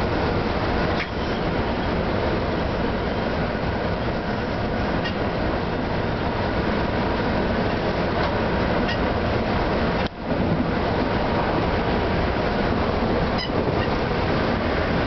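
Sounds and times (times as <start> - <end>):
locomotive machinery running: 0.0 - 15.0
wheels rumbling on rail: 0.0 - 15.0.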